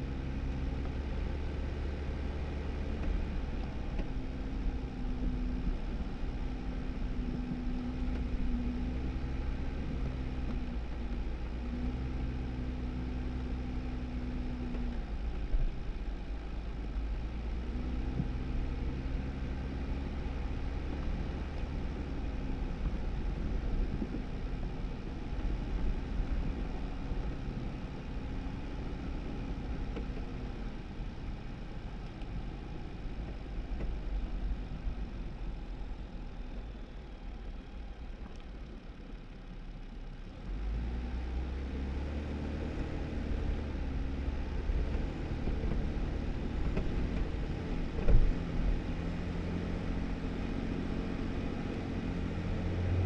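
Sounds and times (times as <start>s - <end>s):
tyre and road rumble: 0.0s - 38.9s, 41.5s - 53.0s
car engine drone: 0.0s - 53.0s.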